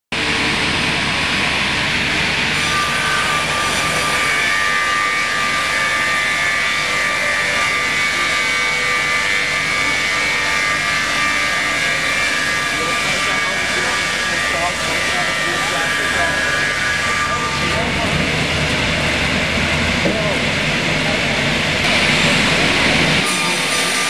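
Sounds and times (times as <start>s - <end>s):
higher saw whine: 0.2s - 24.0s
saw blades whining: 0.2s - 24.0s.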